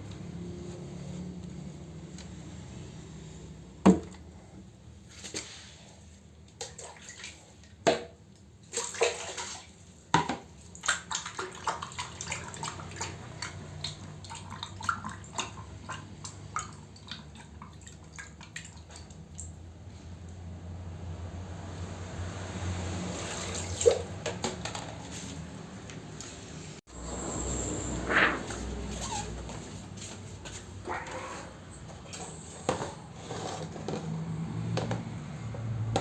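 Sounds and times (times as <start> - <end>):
water splashing and sloshing: 5.0 - 20.2, 21.0 - 25.6, 26.8 - 36.0.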